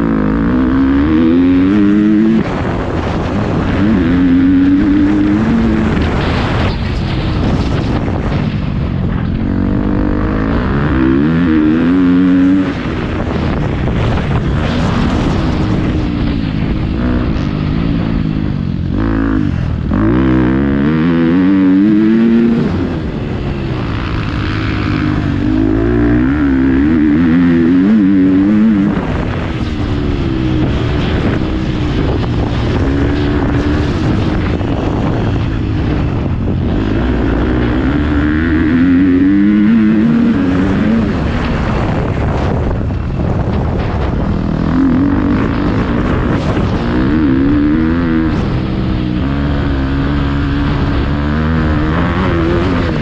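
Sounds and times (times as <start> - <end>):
motocross engine revving: 0.0 - 8.4, 9.1 - 53.0.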